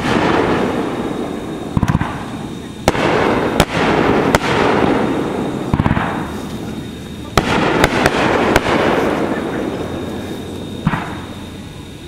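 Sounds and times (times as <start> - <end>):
fireworks crackling: 0.0 - 12.0
fireworks sharp bangs: 0.0 - 12.0
rumble of firework bursts: 0.0 - 12.0.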